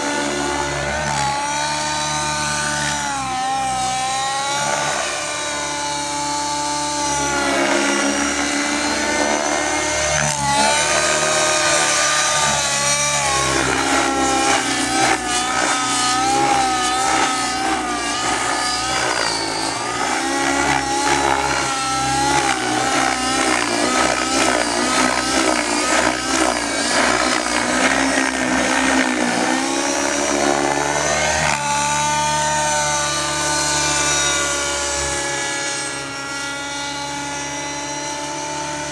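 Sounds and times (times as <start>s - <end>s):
rc helicopter engine whine: 0.0s - 38.9s.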